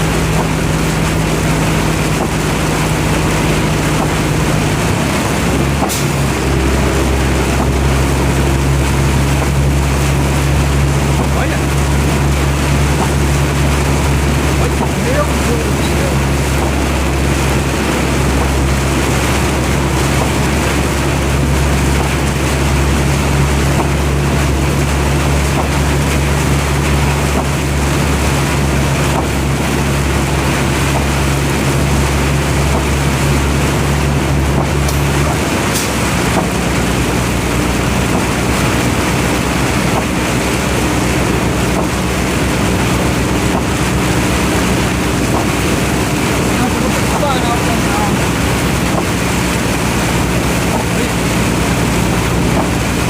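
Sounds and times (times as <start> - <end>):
road and wind noise: 0.0 - 53.0
vehicle engine running: 0.0 - 53.0.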